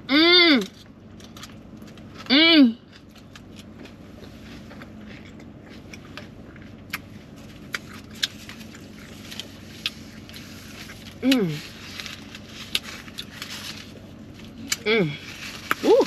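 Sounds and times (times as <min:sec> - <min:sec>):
low steady background hum: 0:00.0 - 0:16.0
close-up chewing: 0:00.8 - 0:16.0.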